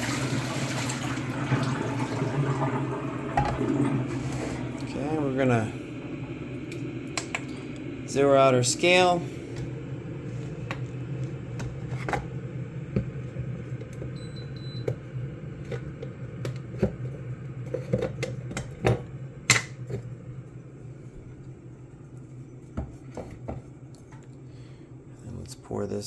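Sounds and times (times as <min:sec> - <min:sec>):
steady low hum: 0:03.1 - 0:26.0.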